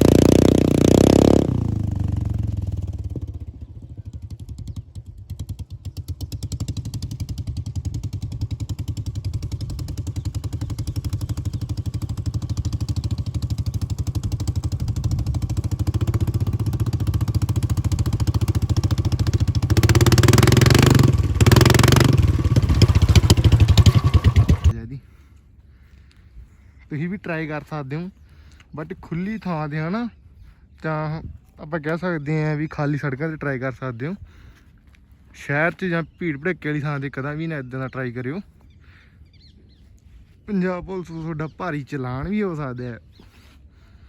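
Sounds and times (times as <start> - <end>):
motorcycle engine idling and revving: 0.0 - 24.8, 28.9 - 44.0.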